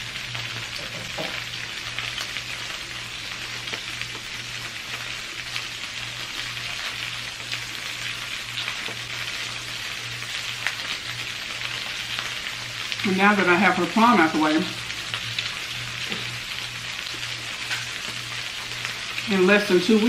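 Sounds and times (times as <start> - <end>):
food sizzling in a skillet: 0.0 - 20.0.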